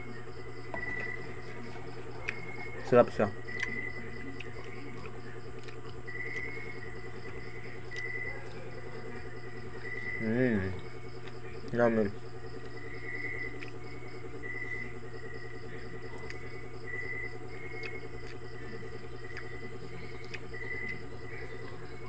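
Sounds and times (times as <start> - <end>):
insects chirping: 0.0 - 22.0
steady low hum: 0.0 - 22.0.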